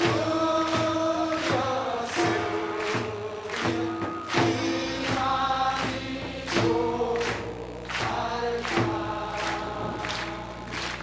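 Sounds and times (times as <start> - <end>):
percussion beat: 0.0 - 11.0
person singing slow melody: 0.0 - 11.0.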